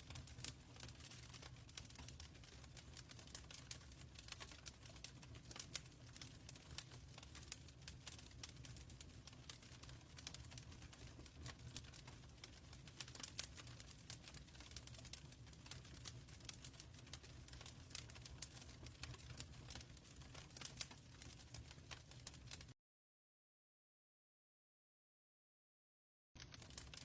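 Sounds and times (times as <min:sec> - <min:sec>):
soft low fire rumble: 0:00.0 - 0:22.7, 0:26.4 - 0:27.0
wood fire crackling: 0:00.0 - 0:22.8, 0:26.4 - 0:27.0.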